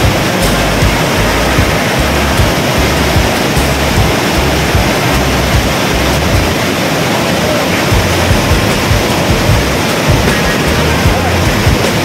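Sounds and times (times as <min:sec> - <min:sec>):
water crashing over boulders: 0:00.0 - 0:12.0
waterfall rushing: 0:00.0 - 0:12.0.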